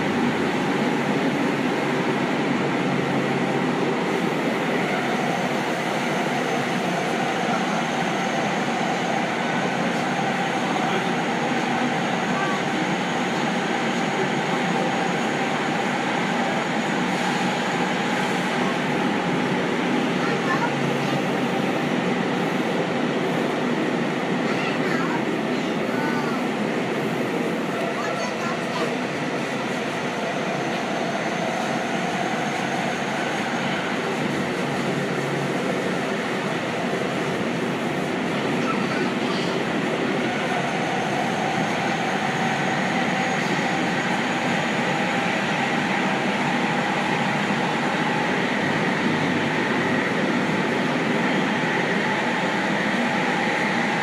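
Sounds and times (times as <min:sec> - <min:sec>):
train wheels rumbling in tunnel: 0:00.0 - 0:54.0.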